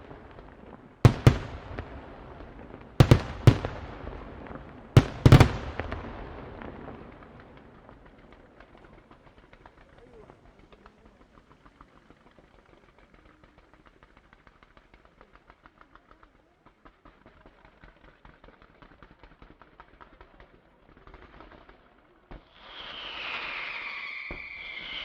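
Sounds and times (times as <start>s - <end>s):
crackle of firework pops: 0.0s - 25.0s
whistling fireworks: 0.0s - 25.0s.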